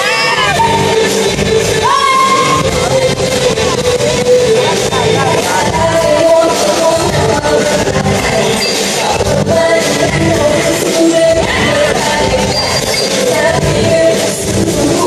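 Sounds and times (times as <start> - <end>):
dance-pop backing track: 0.0 - 15.0
woman singing: 0.0 - 15.0.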